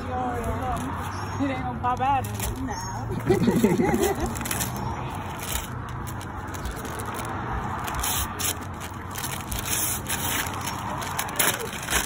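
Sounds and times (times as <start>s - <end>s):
paper rustling and crinkling: 0.2s - 12.0s.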